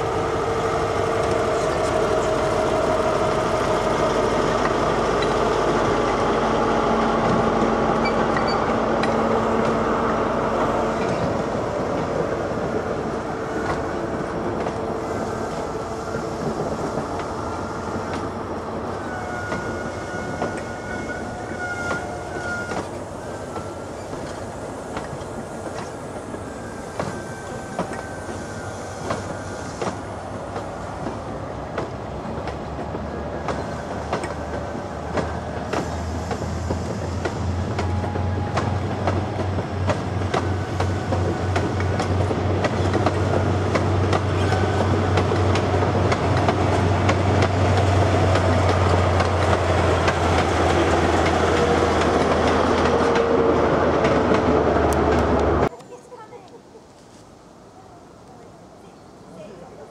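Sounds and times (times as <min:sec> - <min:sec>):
train wheels clicking over rail joints: 0:07.2 - 0:09.8, 0:10.5 - 0:56.0.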